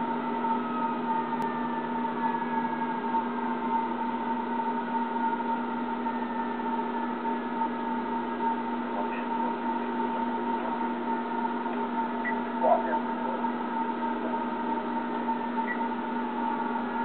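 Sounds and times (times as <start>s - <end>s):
distant fire engine siren: 0.0s - 17.0s
steady machine hum: 0.0s - 17.0s.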